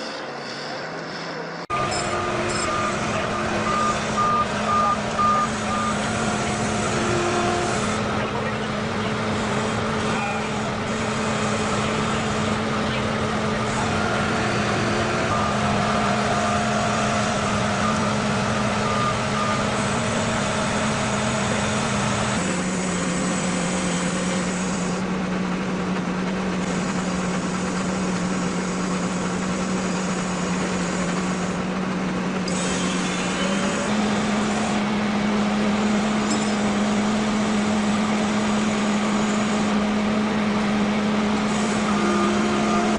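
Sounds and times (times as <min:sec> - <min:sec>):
heavy truck engine running: 0:00.0 - 0:42.9.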